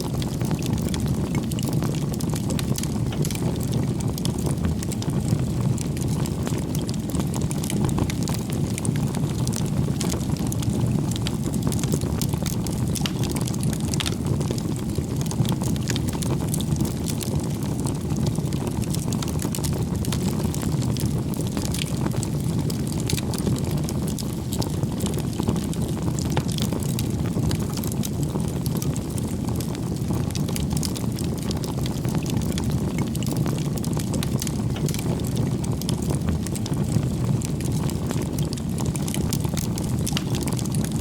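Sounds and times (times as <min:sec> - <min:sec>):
campfire flames rushing: 0:00.0 - 0:41.0
firewood crackling and popping: 0:00.0 - 0:41.0.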